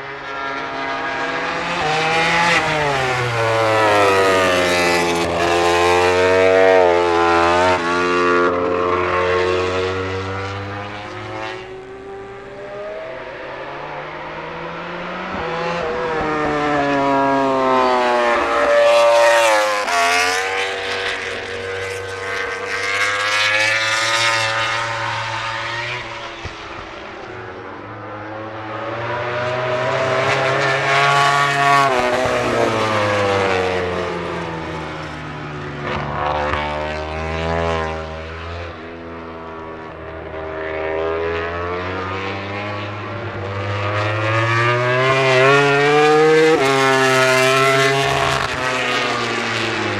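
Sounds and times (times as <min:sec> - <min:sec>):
racing motorcycles passing: 0:00.0 - 0:49.9.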